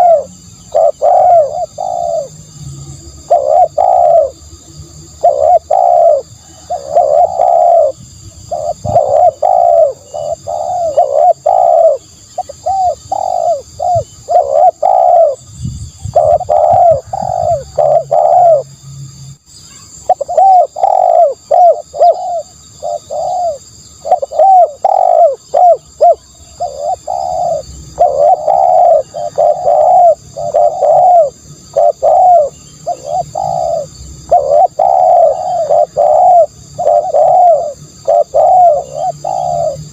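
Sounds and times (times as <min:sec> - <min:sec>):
dove cooing: 0:00.0 - 0:18.7, 0:20.0 - 0:39.9.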